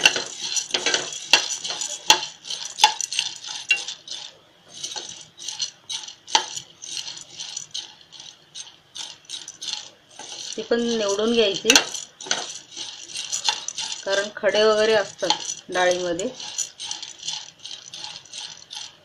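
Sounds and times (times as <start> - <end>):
grains scraping across a pan: 0.0 - 19.0.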